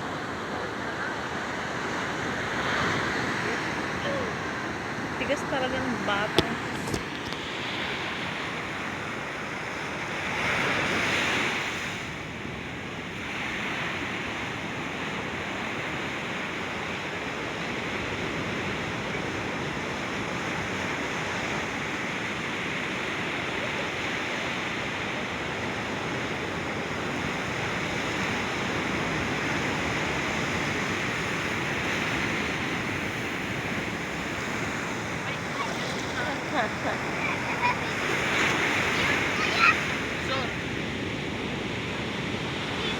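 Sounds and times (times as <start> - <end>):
waves breaking on beach: 0.0 - 42.9.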